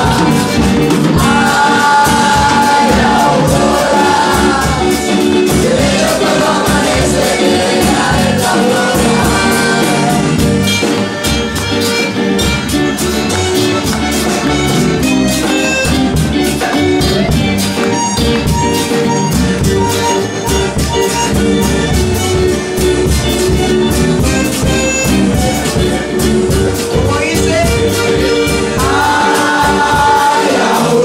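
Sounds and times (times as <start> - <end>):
accordion: 0.0 - 31.0
drum kit beat: 0.0 - 31.0
electric guitar: 0.0 - 31.0.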